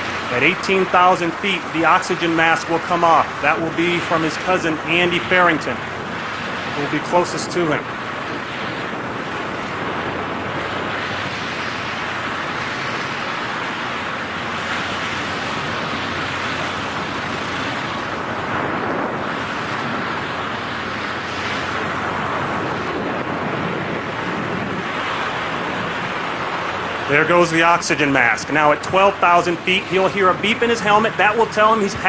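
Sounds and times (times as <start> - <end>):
wind rushing on microphone: 0.0 - 32.0.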